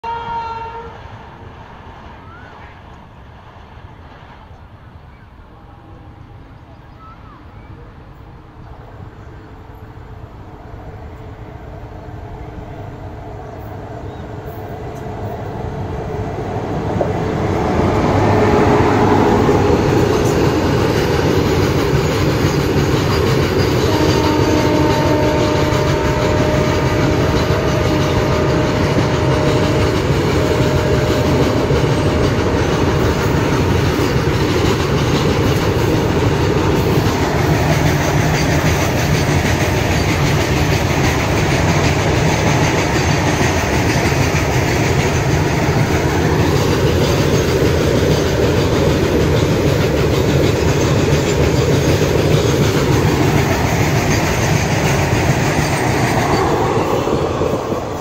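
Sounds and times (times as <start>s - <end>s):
wheels rumbling on rails: 0.9s - 58.0s.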